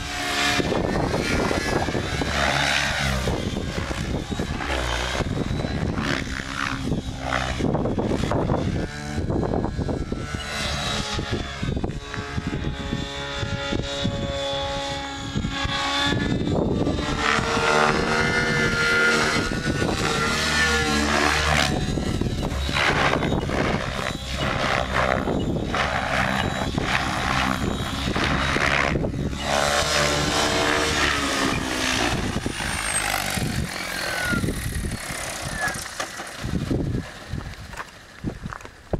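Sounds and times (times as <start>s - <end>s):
rotor whoosh: 0.0s - 38.1s
helicopter motor whine: 0.0s - 38.9s.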